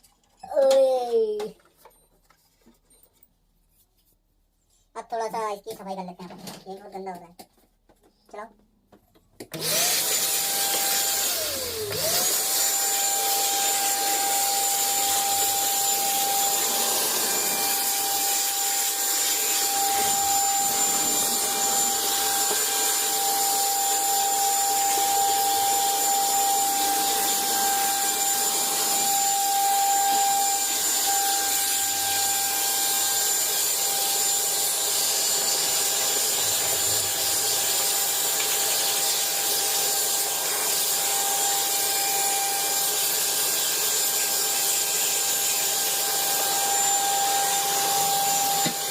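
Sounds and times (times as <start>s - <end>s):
vacuum cleaner motor whine: 9.5s - 48.9s.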